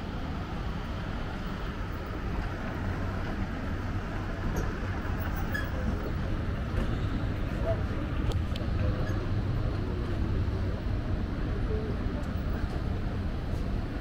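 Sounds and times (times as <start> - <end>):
escalator rumble and hum: 0.0 - 14.0.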